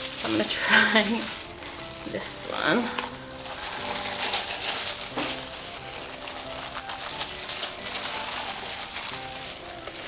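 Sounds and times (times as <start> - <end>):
background music with held notes: 0.0 - 10.0
wax paper crinkling: 0.0 - 10.0.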